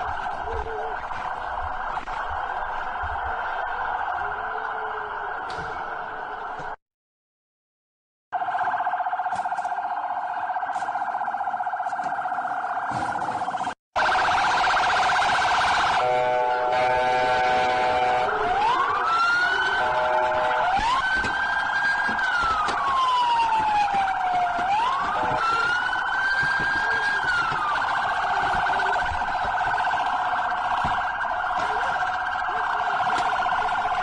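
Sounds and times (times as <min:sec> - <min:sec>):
police siren cycling tones: 0:00.0 - 0:06.8, 0:08.3 - 0:34.0.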